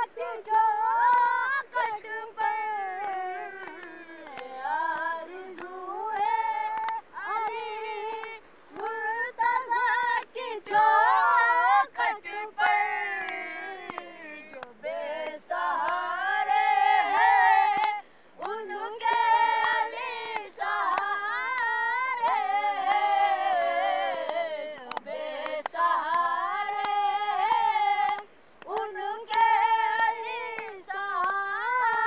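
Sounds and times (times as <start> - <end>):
boys singing unaccompanied: 0.0 - 32.0.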